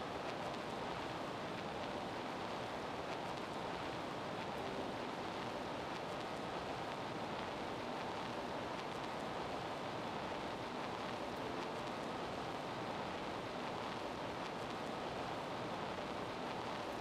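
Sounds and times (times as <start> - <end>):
gymnasium room noise hiss: 0.0 - 17.0.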